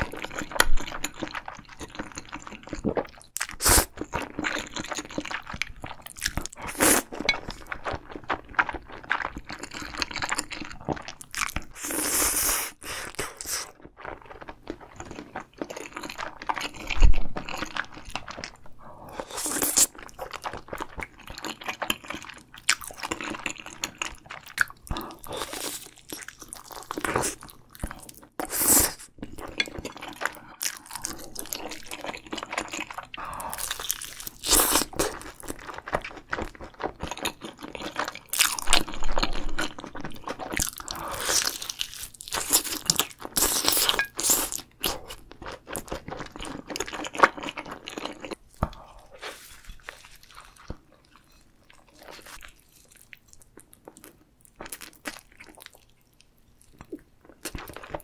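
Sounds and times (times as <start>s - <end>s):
person chewing: 0.0s - 58.0s.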